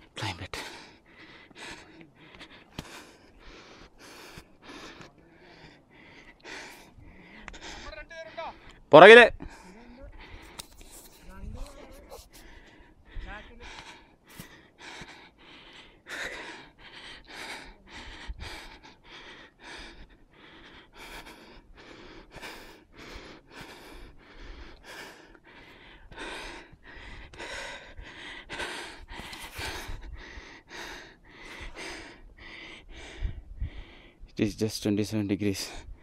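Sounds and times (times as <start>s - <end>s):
person breathing heavily: 0.0s - 34.4s, 35.6s - 36.0s.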